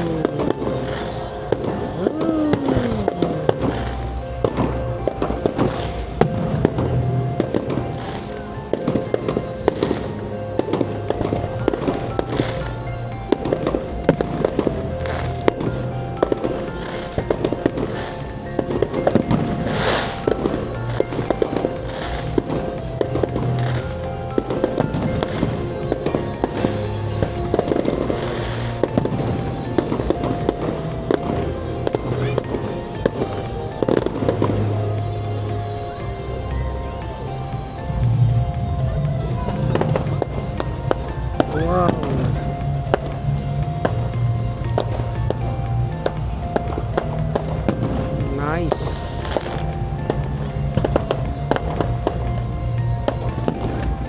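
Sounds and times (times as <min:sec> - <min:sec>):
fireworks bangs and pops: 0:00.0 - 0:35.1, 0:37.7 - 0:54.0
music playing: 0:00.0 - 0:54.0.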